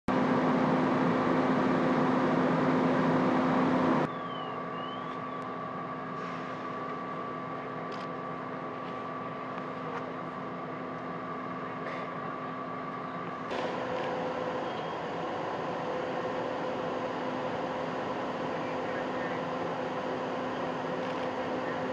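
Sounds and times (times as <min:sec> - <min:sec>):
diesel engine droning: 0:00.1 - 0:21.9.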